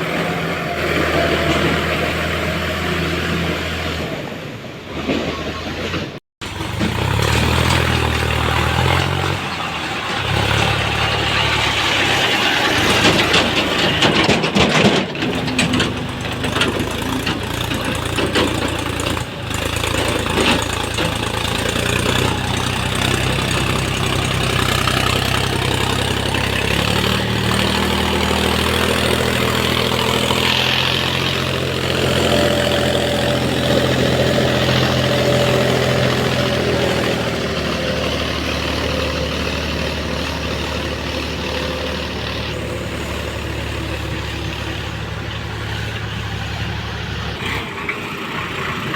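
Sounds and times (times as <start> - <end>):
diesel tractor engine running: 0.0 - 48.9
rattling and knocks: 5.0 - 47.4.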